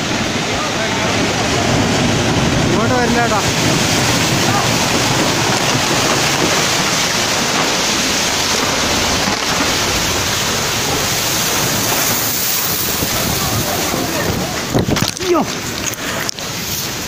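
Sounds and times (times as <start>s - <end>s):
mud and water rushing: 0.0s - 17.0s.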